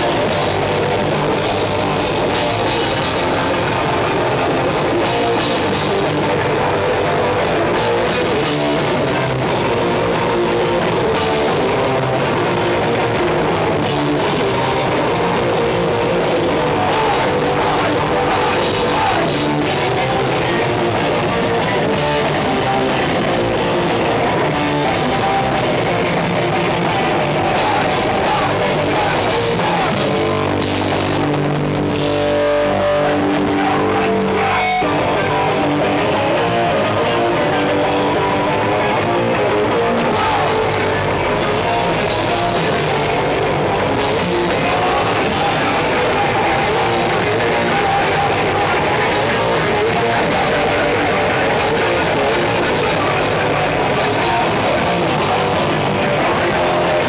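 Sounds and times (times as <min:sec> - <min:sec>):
punk band playing live: 0:00.0 - 0:57.0.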